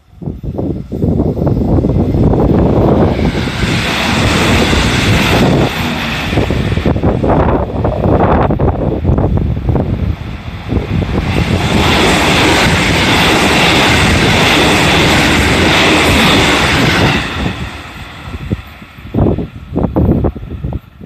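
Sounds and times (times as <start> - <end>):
electric train running past: 0.0 - 21.0.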